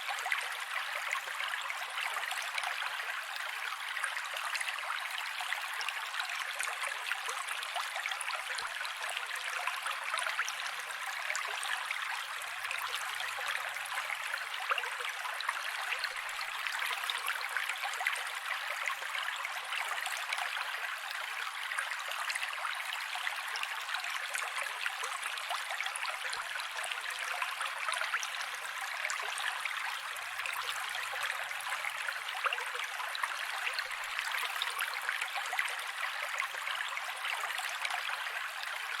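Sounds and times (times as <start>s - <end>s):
creek running water: 0.0s - 39.0s.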